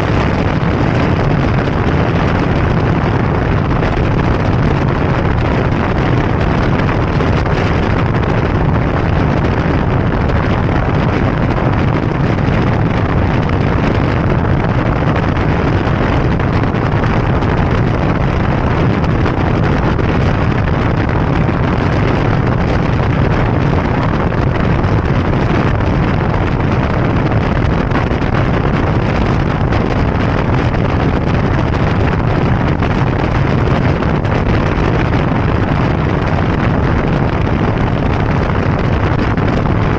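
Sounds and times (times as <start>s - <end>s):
motorbike running at speed: 0.0s - 39.9s
wind buffeting microphone: 0.0s - 39.9s.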